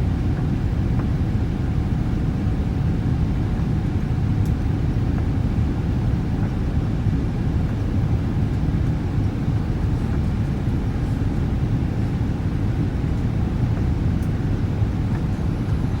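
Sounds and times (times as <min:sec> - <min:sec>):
airliner cabin engine roar: 0:00.0 - 0:16.0.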